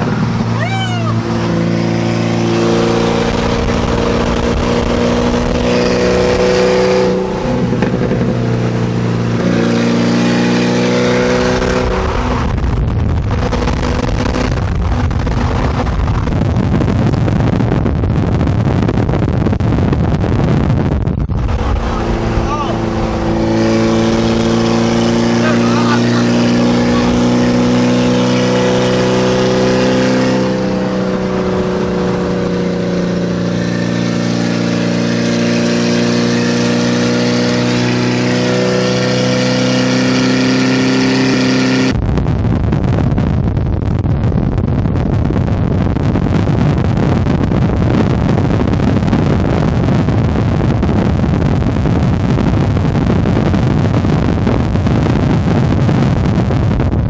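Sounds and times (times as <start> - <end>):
car engine droning: 0.0 - 57.0
road and wind noise: 0.0 - 57.0.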